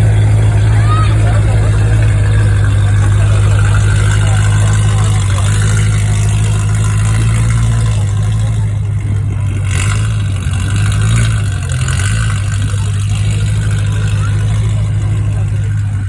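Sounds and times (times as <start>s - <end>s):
car engine deep rumble: 0.0s - 16.0s.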